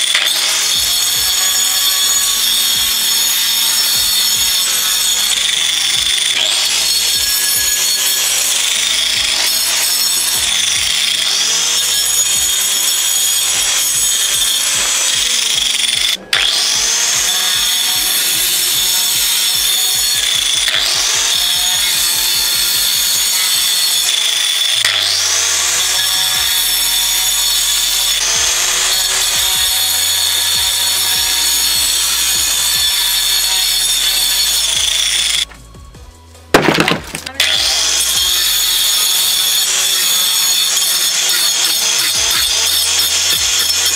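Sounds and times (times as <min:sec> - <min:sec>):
angle grinder cutting ice: 0:00.0 - 0:35.5, 0:36.5 - 0:43.9.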